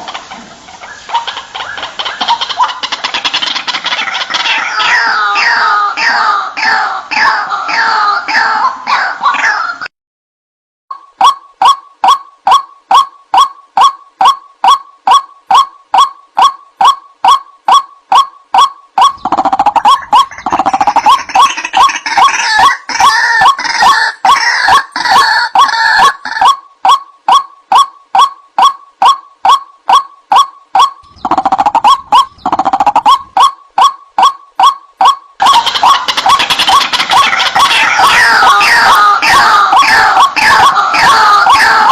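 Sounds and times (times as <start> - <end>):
overlapping bird calls: 0.0 - 9.9, 10.9 - 41.9
waterhen repeated calls: 0.0 - 9.9, 10.9 - 41.9.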